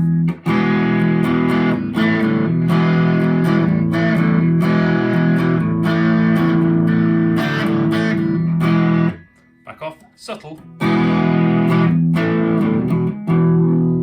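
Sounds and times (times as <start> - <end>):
electric guitar strummed chords: 0.0 - 9.6, 10.6 - 14.0.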